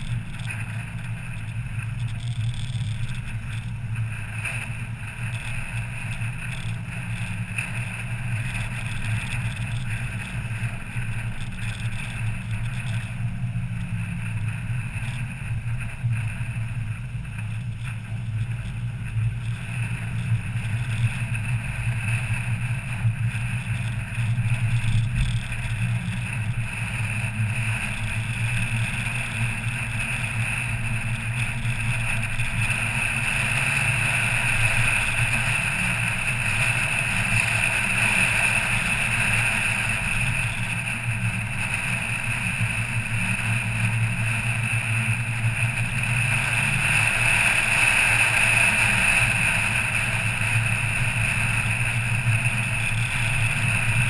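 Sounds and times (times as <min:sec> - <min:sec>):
car engine drone: 0:00.0 - 0:54.0
road and tyre noise: 0:00.0 - 0:54.0.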